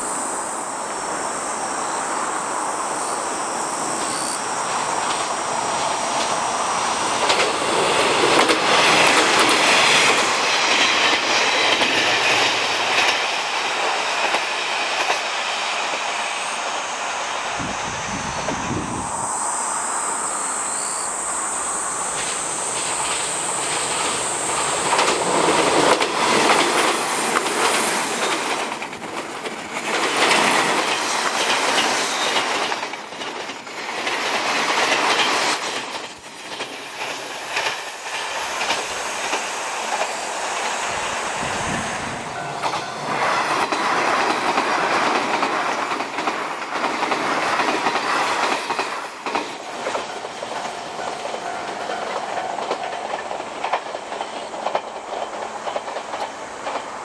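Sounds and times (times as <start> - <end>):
train wheels squealing: 2.9 - 13.5, 14.1 - 56.9
train wheels clattering: 4.0 - 16.4, 22.0 - 57.0.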